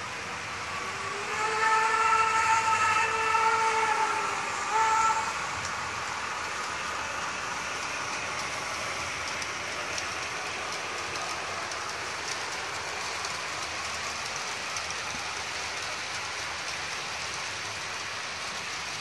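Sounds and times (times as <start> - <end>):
model train running: 0.0 - 19.0.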